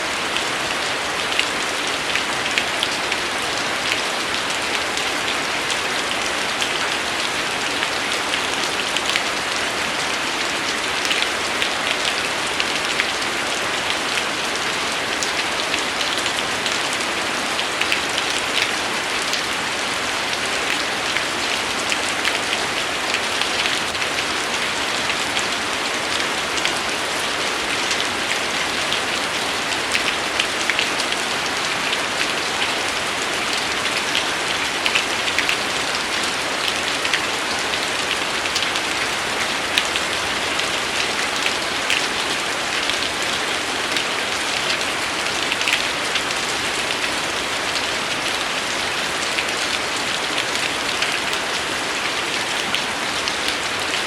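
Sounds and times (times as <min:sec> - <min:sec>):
steady rainfall: 0:00.0 - 0:54.0
raindrops spattering on a surface: 0:00.2 - 0:54.0.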